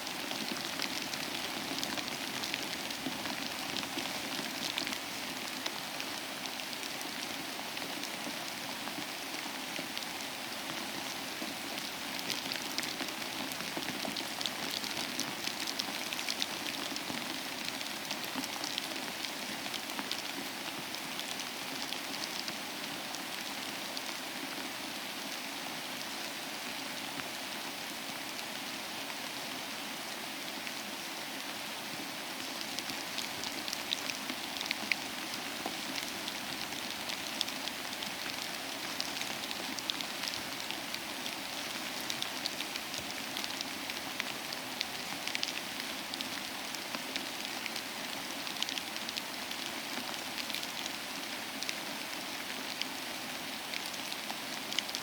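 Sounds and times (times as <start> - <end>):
raindrops pattering: 0.0 - 24.4, 32.3 - 55.0
rain falling: 0.0 - 55.0.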